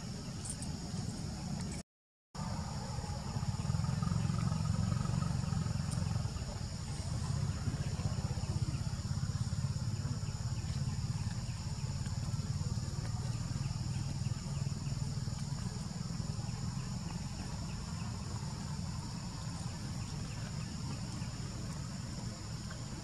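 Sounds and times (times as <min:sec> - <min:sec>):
faint insect drone: 0:00.0 - 0:01.8, 0:02.4 - 0:23.0.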